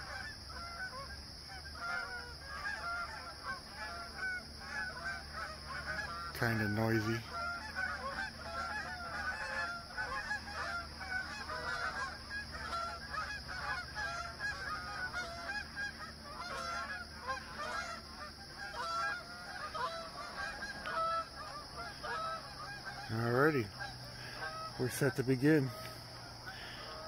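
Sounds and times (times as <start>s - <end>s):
geese honking: 0.0s - 27.0s.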